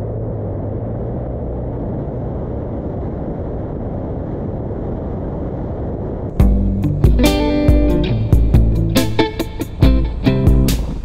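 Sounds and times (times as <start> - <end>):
engine and tyres rumbling on sand: 0.0 - 11.0.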